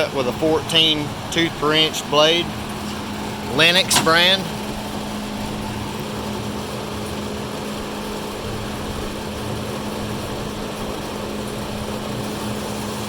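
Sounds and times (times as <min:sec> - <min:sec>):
bandsaw motor humming: 0:00.0 - 0:13.0.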